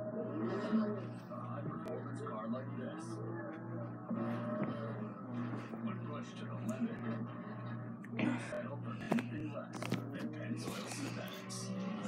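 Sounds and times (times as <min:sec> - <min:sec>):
person speaking on television: 0:00.0 - 0:12.0
steady low hum: 0:00.0 - 0:12.0
television commercial music: 0:00.0 - 0:12.0.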